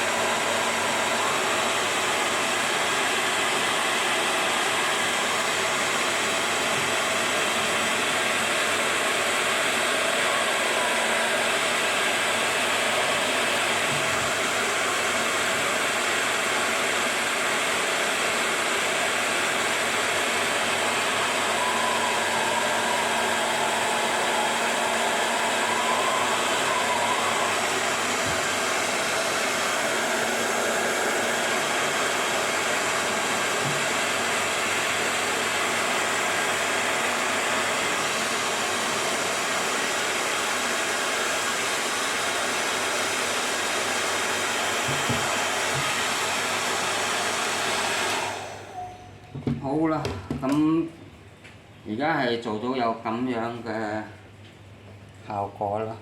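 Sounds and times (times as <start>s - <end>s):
hair dryer blowing: 0.0s - 50.7s.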